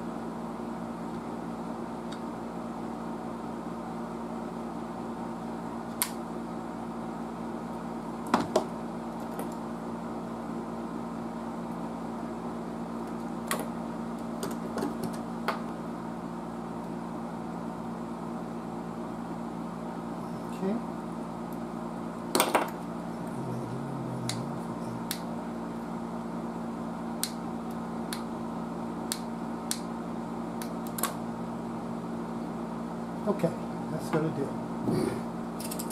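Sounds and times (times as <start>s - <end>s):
low electrical hum: 0.0s - 35.9s.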